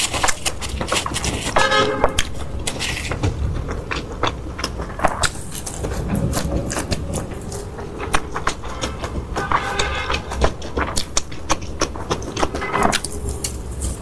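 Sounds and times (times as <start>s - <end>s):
chewing with crunches: 0.0s - 14.0s
steady low hum: 0.0s - 14.0s.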